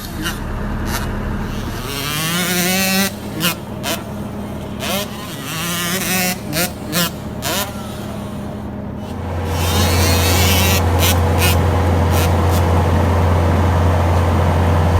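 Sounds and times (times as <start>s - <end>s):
dirt bike engine drone: 0.0s - 14.9s.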